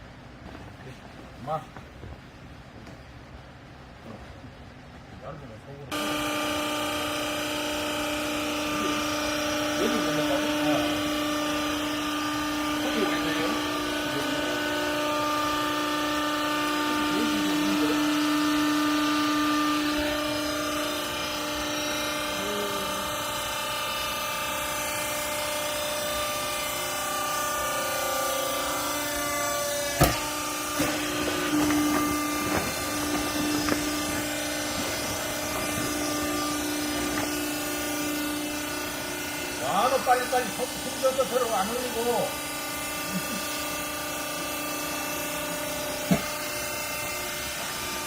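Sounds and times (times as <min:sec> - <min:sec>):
baling machine motor humming: 0:05.9 - 0:48.0.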